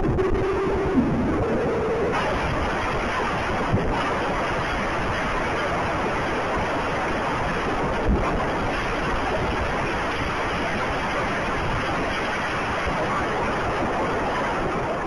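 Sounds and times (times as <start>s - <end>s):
driving rain: 0.0s - 15.0s
storm wind: 0.0s - 15.0s.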